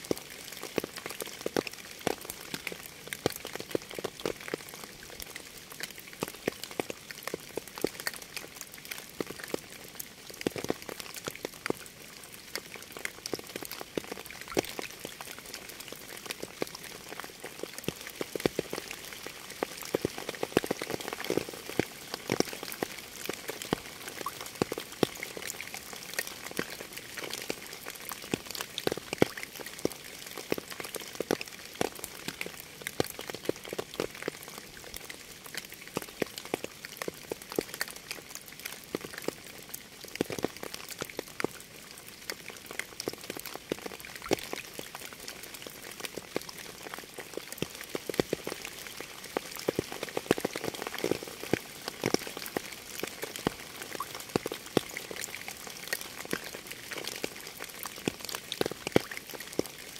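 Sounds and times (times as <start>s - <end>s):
raindrops striking close by: 0.0s - 59.9s
steady rain: 0.0s - 59.9s.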